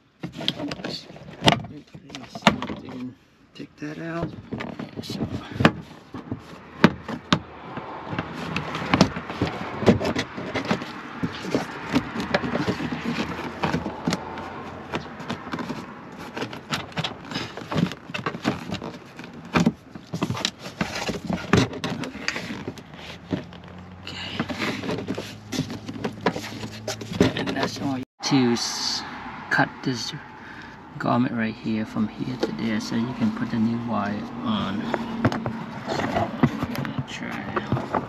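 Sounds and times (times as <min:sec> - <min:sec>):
plastic panel scraping and clicking: 0:00.1 - 0:03.1, 0:04.1 - 0:28.0, 0:32.3 - 0:38.0.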